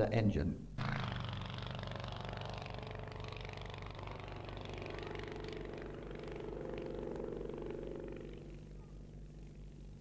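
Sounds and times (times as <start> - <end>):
aero engine running steadily: 0.8 - 10.0.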